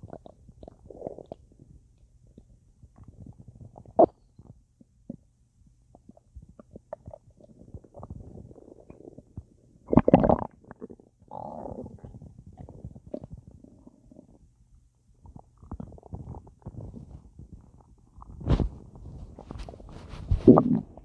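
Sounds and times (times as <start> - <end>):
stomach gurgling and bubbling: 0.0 - 21.0.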